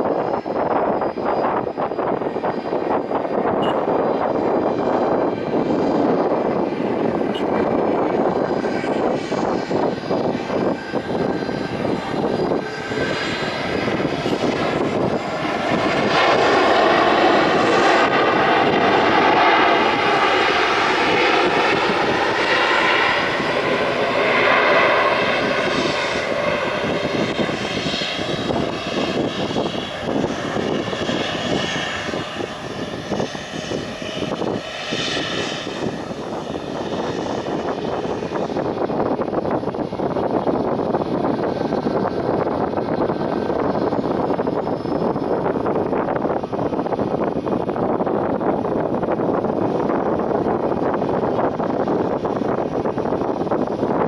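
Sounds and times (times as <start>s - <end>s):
jet airliner roaring past: 0.0s - 54.0s.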